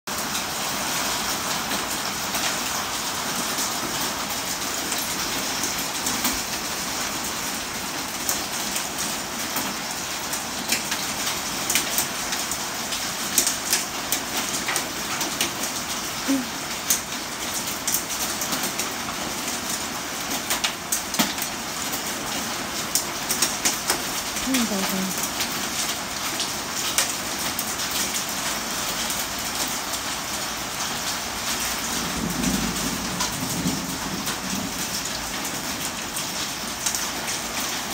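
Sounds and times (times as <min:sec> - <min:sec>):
heavy rain falling: 0:00.1 - 0:37.9
raindrops ticking on surfaces: 0:00.1 - 0:37.9.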